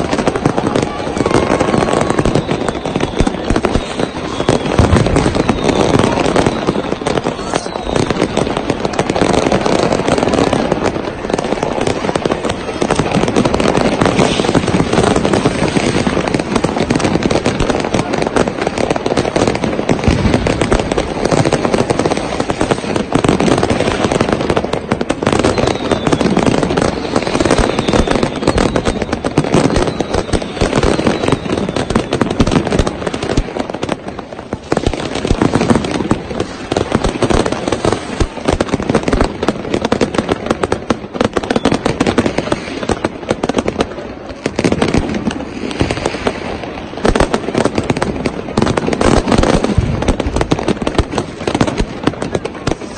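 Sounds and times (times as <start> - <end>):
fireworks crackling and banging: 0.0 - 52.9.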